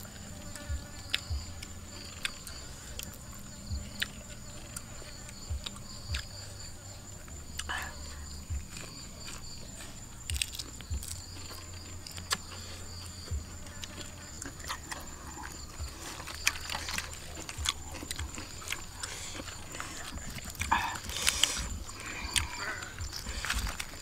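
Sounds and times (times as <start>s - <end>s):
chewing crispy food: 0.0s - 24.0s.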